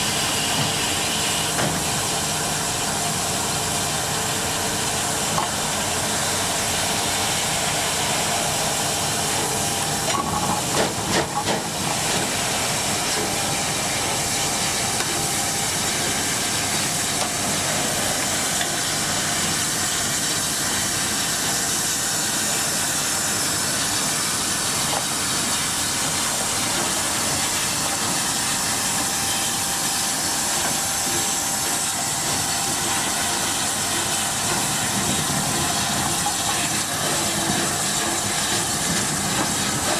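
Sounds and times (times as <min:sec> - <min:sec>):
steam locomotive hissing steam: 0:00.0 - 0:39.9.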